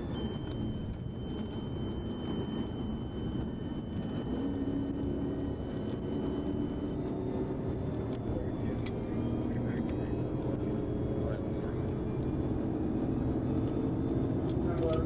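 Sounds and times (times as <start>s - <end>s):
car engine at high speed: 0.0s - 15.0s
high whine: 0.0s - 15.0s.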